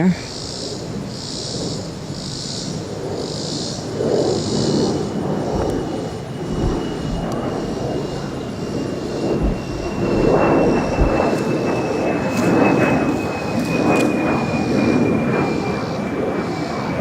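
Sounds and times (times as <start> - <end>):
high jet whine: 0.0 - 17.0
jet aircraft taking off: 0.0 - 17.0.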